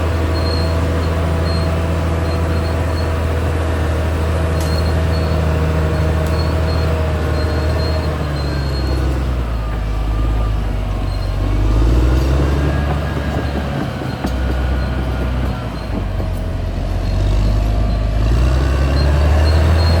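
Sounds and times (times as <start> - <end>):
bulldozer diesel engine running: 0.0 - 20.0
steel tracks squealing: 0.0 - 20.0.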